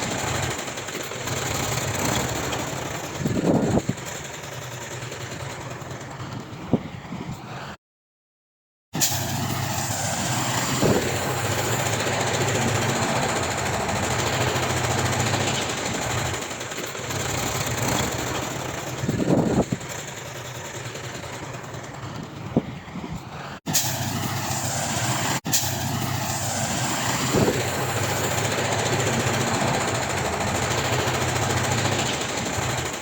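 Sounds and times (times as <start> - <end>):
diesel earthmoving machinery: 0.0 - 7.8, 9.0 - 33.0.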